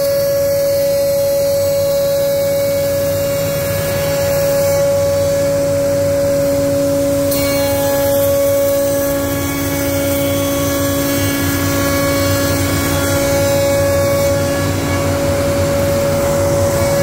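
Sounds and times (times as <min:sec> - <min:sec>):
router spindle whine: 0:00.0 - 0:17.0
rumble of wood cutting: 0:00.0 - 0:17.0.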